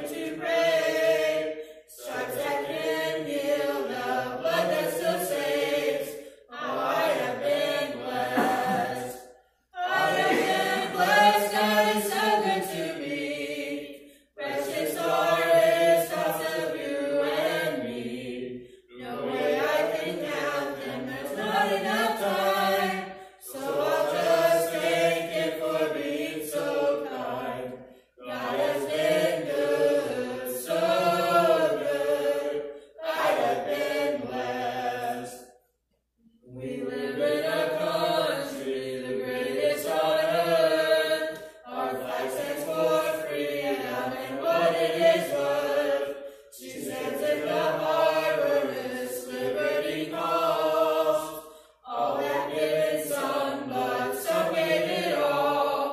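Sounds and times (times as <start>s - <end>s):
group singing unaccompanied: 0.0s - 55.9s.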